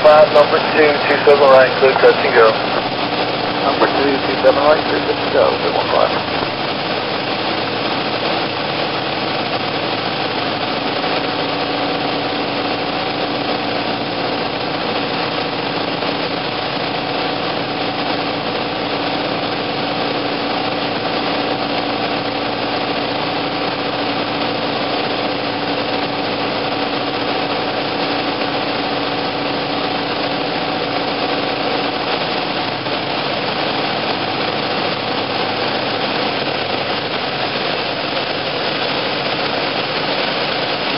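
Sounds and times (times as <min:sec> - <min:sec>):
propeller plane engine droning: 0:00.0 - 0:40.9.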